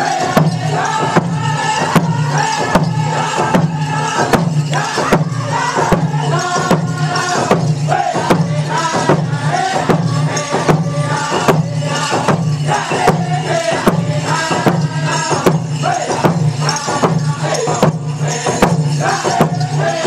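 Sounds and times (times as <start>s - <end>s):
big drum beating: 0.0s - 20.0s
drum group singing: 0.0s - 20.0s.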